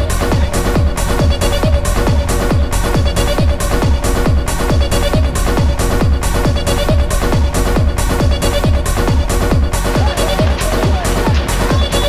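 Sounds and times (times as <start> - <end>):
steady kick drum: 0.0 - 12.0
sustained synth tones: 0.0 - 12.0
trance dance music: 0.0 - 12.0.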